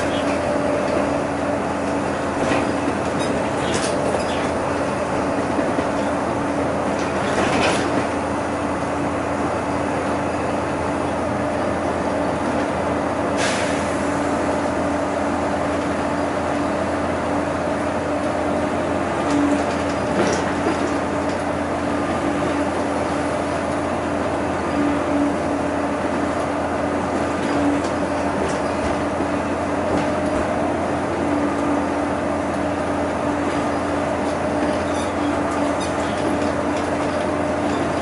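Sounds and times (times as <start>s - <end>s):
bus engine and road noise: 0.0s - 38.0s.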